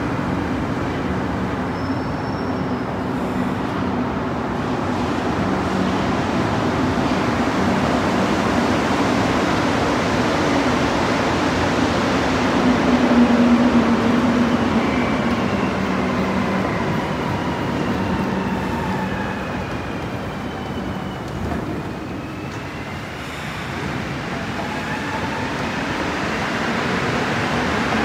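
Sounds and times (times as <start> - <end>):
metro traction motor whine: 0.1 - 28.0.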